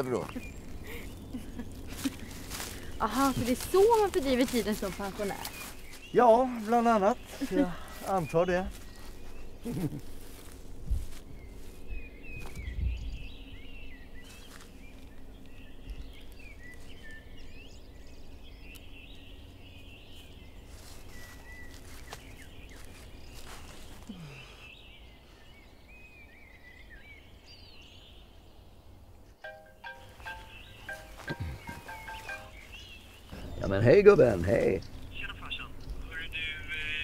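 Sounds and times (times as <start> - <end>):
low outdoor rumble: 0.0 - 37.0
small birds chirping: 0.0 - 37.0.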